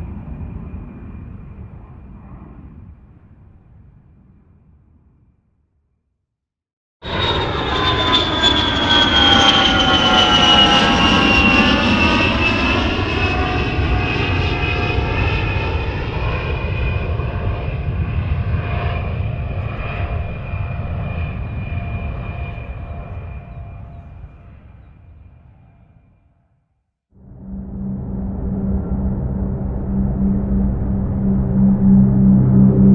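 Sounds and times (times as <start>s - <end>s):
airplane engine rumble and whine: 0.0s - 3.8s, 7.0s - 26.0s, 27.2s - 32.9s.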